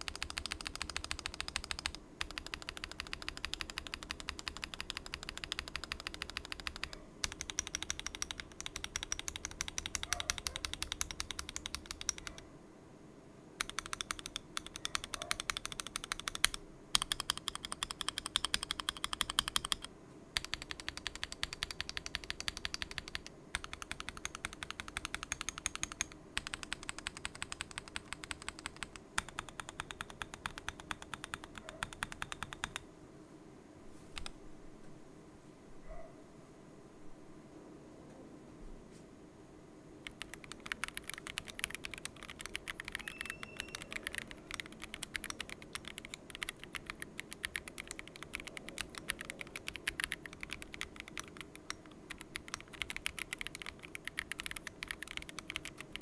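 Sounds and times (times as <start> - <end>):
fast mechanical keyboard typing: 0.0 - 12.4, 13.6 - 32.8, 40.0 - 56.0.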